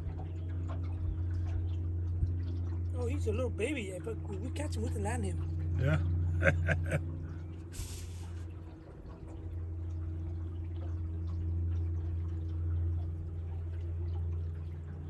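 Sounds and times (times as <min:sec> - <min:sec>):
boat motor running: 0:00.0 - 0:15.0
faint water lapping: 0:00.0 - 0:15.0.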